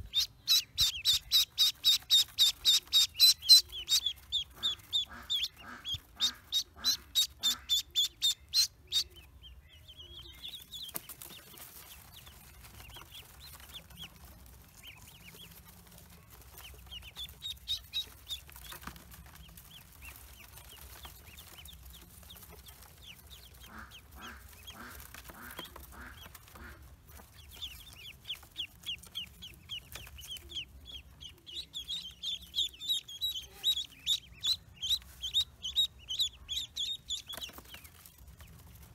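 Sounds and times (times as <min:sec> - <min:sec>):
ducklings peeping: 0:00.0 - 0:38.9.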